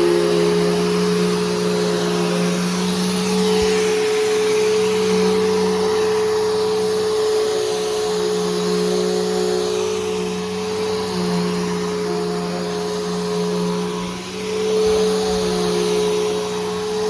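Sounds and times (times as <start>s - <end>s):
upright vacuum running: 0.0s - 17.0s.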